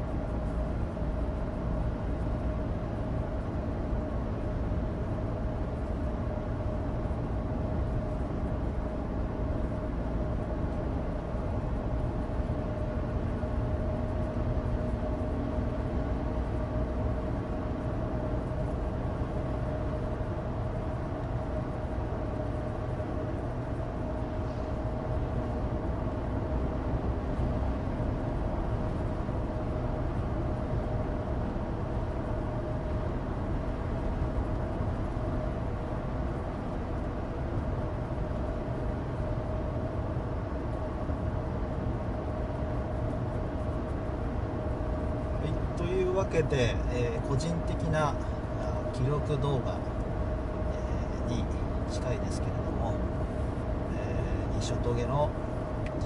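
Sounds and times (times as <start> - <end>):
car engine drone: 0.0 - 56.0
tyres rumbling on asphalt: 0.0 - 56.0.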